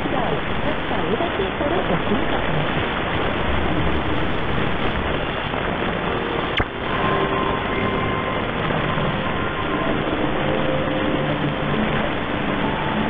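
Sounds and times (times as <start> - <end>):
radio static hiss and crackle: 0.0 - 13.0
sharp static crack: 0.0 - 13.0.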